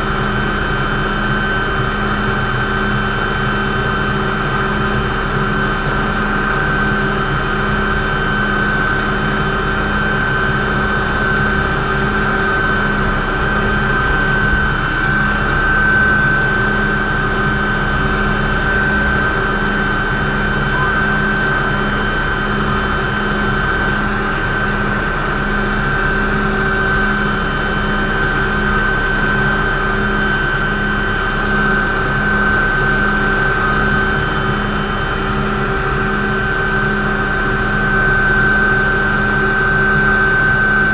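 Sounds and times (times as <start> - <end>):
helicopter rotor noise: 0.0 - 40.9
helicopter turbine whine: 0.0 - 40.9.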